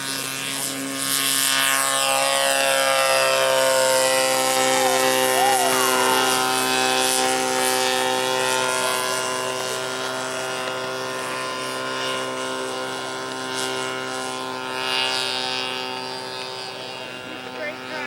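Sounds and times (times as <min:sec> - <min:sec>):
model airplane engine: 0:00.0 - 0:18.0.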